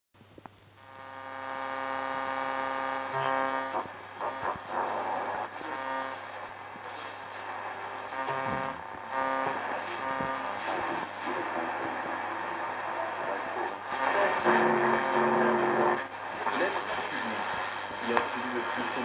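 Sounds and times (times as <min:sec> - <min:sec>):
low mains hum: 0:00.2 - 0:19.0
radio static bursts: 0:00.8 - 0:19.0
radio tone: 0:00.9 - 0:19.0.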